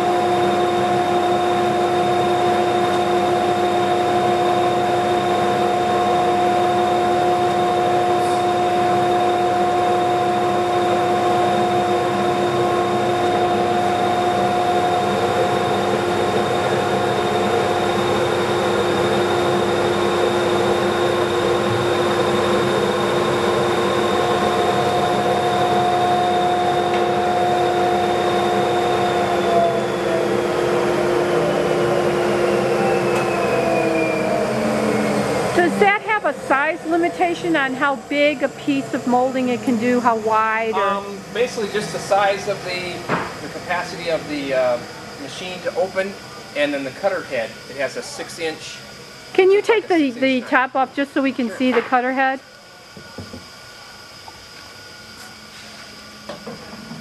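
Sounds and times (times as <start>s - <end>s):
molding machine whining: 0.0s - 57.0s.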